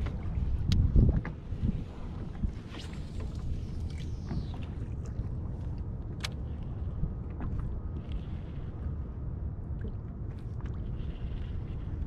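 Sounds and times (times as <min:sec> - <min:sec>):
water around a kayak: 0:00.0 - 0:12.0
wind rumble: 0:00.0 - 0:12.0.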